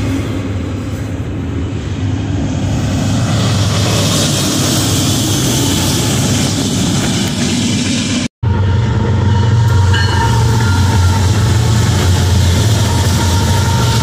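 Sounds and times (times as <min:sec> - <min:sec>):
diesel locomotive engine droning: 0:00.0 - 0:14.0
steel wheels on rails: 0:00.0 - 0:14.0.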